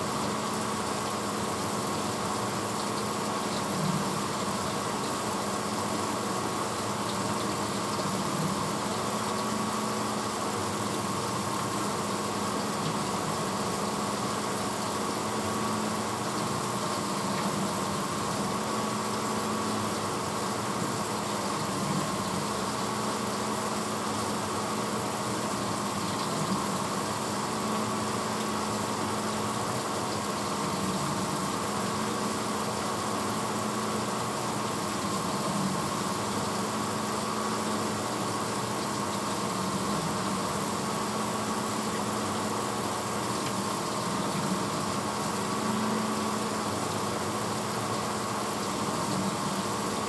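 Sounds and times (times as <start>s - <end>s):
dishwasher motor hum: 0.0s - 50.0s.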